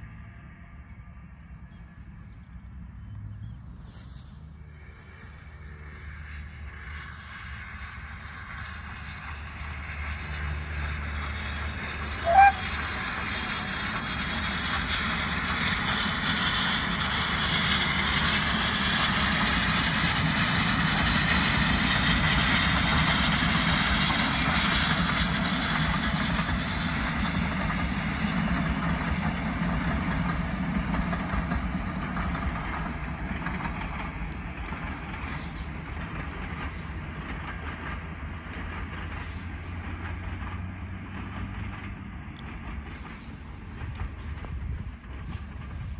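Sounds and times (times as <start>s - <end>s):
steam locomotive rumbling past: 0.0s - 45.9s.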